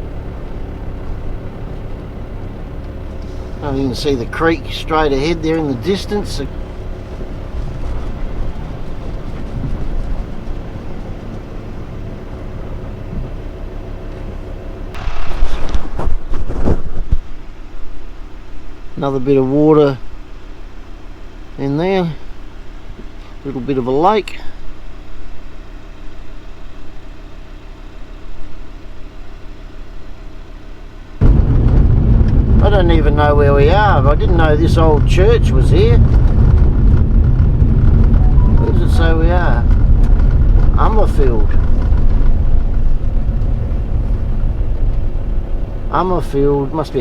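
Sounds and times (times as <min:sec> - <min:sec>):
vehicle engine and road noise: 0:00.0 - 0:18.8, 0:24.8 - 0:47.0.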